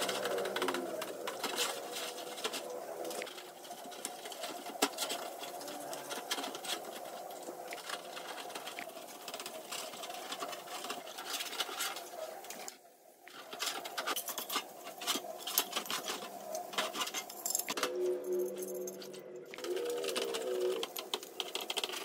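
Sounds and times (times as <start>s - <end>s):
scratchy clicks and ticks: 0.0s - 22.0s.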